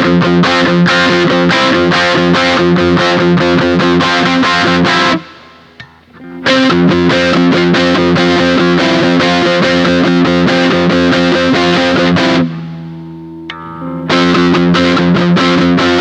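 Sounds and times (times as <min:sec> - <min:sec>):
distorted electric guitar chords: 0:00.0 - 0:16.0.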